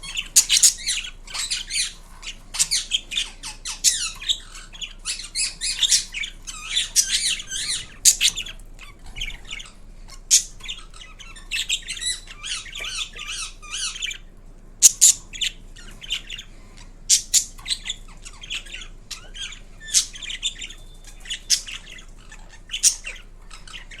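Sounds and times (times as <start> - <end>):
parakeet chattering: 0.0 - 24.0
parakeet screeching: 0.0 - 24.0.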